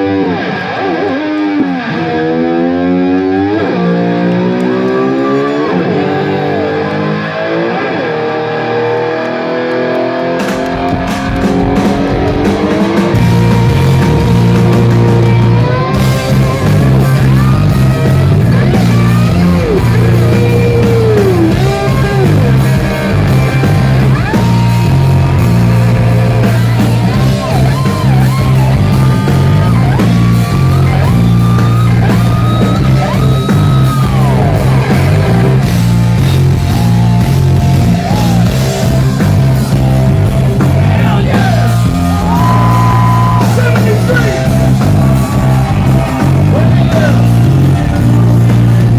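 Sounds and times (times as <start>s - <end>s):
electric guitar lead bending: 0.0s - 48.9s
rock band playing loud: 0.0s - 48.9s.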